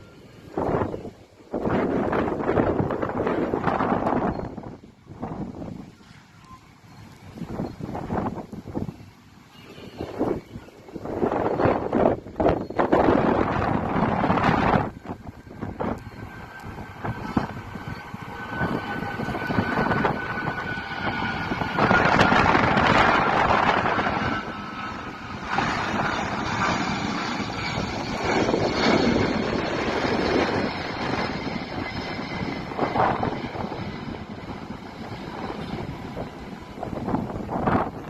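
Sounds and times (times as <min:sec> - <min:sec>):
jet engines roaring with whine: 0:00.0 - 0:38.0.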